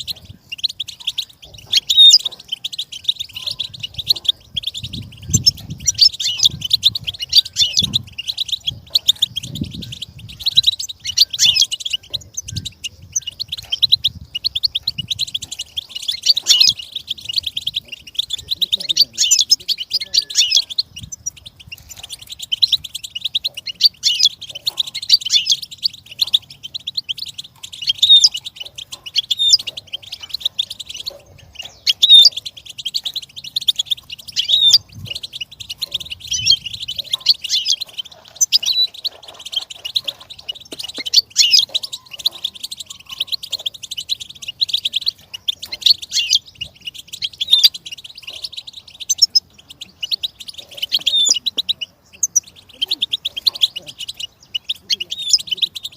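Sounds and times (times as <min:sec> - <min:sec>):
bird twittering and trilling: 0:00.0 - 0:55.9.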